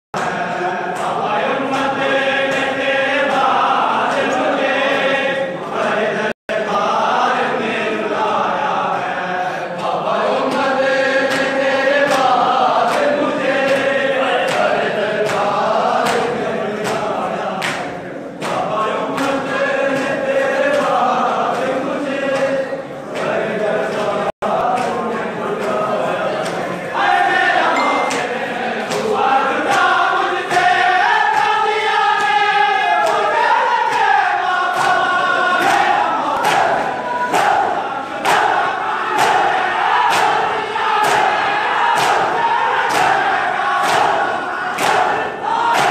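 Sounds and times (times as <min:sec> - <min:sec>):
men chanting in unison: 0:00.2 - 0:45.9
rhythmic chest-beating slaps: 0:00.2 - 0:45.9.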